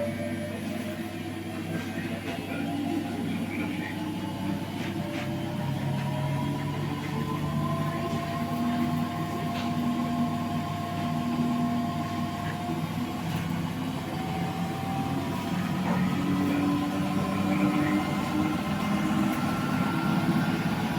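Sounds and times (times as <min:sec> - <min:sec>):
washing machine spinning: 0:00.0 - 0:20.9.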